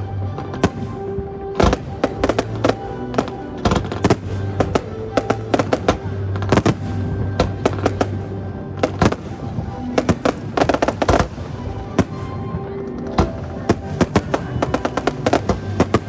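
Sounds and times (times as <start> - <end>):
background music: 0.0 - 16.0
fireworks bangs: 0.0 - 16.0
fireworks crackling: 0.0 - 16.0.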